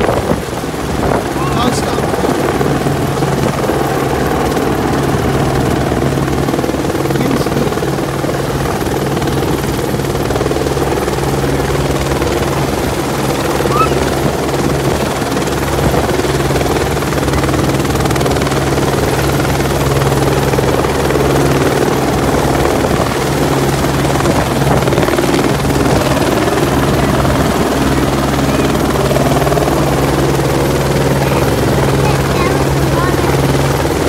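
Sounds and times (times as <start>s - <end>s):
helicopter hovering: 0.0s - 34.0s.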